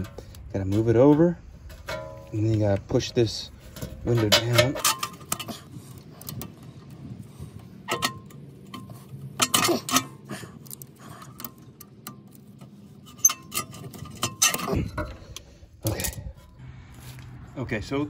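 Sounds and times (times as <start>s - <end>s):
metal clattering: 0.0s - 16.6s.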